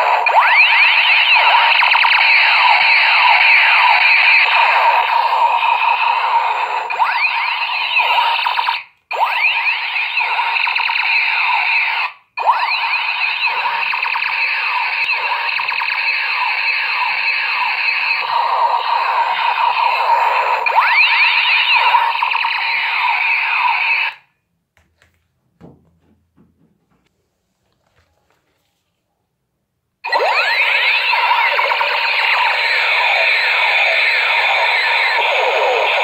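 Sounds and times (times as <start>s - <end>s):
toy gun laser sound effect: 0.0s - 24.2s, 30.0s - 36.0s.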